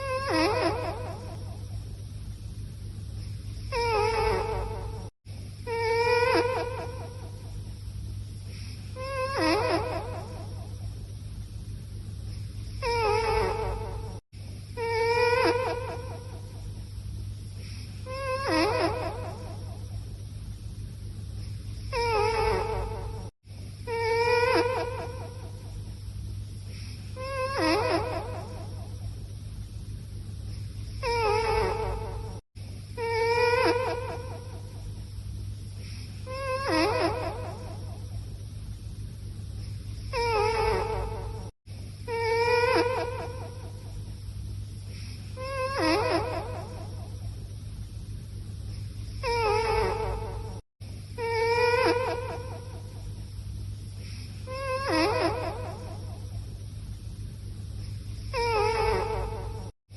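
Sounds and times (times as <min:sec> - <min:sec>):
cat whining while sleeping: 0:00.0 - 0:02.0, 0:03.2 - 0:07.8, 0:08.5 - 0:11.1, 0:12.3 - 0:16.9, 0:17.5 - 0:20.2, 0:21.4 - 0:25.9, 0:26.6 - 0:29.4, 0:30.5 - 0:38.3, 0:39.6 - 0:44.0, 0:44.9 - 0:47.5, 0:48.6 - 0:53.3, 0:53.9 - 0:56.7, 0:57.8 - 0:59.8.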